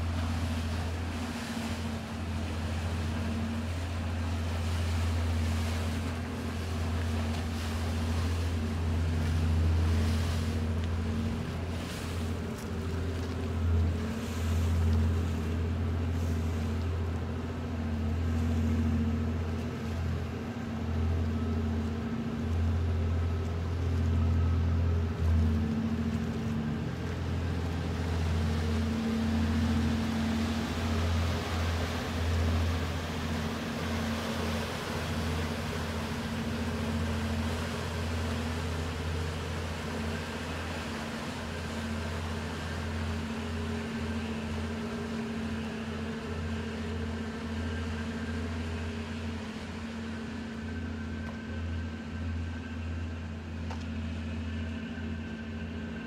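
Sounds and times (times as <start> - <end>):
ferry engines humming: 0.0 - 56.0.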